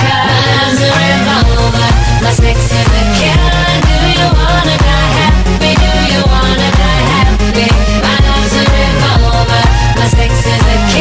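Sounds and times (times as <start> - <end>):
electronic dance-pop music: 0.0 - 11.0.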